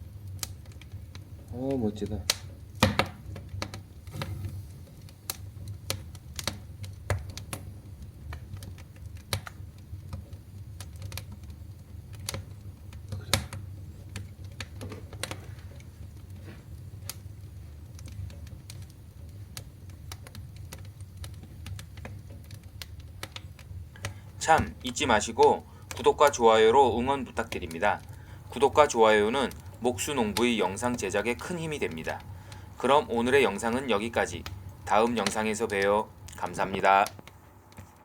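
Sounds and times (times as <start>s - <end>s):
firewood crackling and popping: 0.0s - 38.0s
low steady fire rumble: 0.0s - 38.0s.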